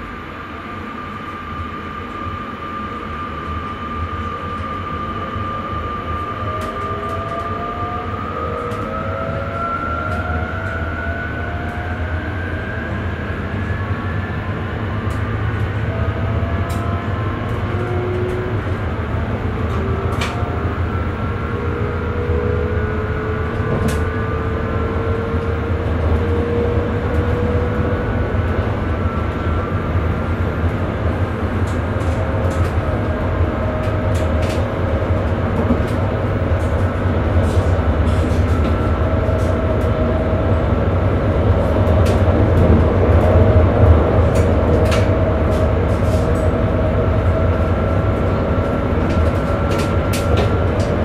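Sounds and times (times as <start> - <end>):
train rumbling: 0.0 - 51.0.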